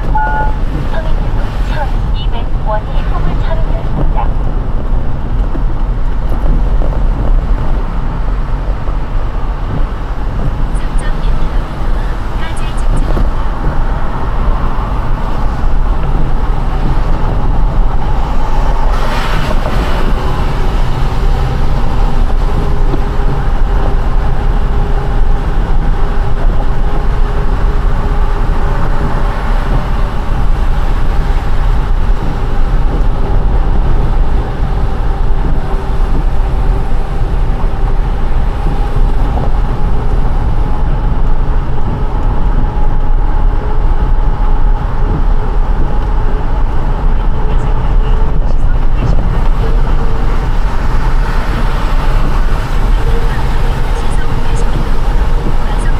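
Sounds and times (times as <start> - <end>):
deep rumble: 0.0 - 55.9
tyre noise on wet road: 0.0 - 55.9.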